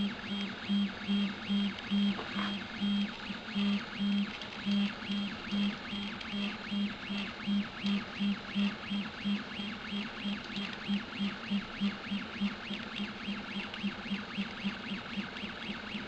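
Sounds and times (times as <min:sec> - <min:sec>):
printer stepper motors whining: 0:00.0 - 0:16.0.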